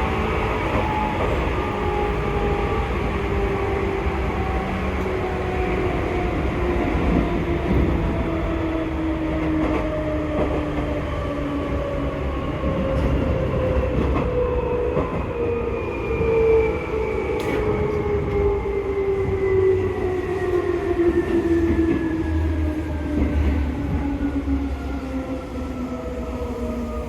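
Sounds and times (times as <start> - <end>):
rumble of train running gear: 0.0 - 16.6, 17.2 - 27.0.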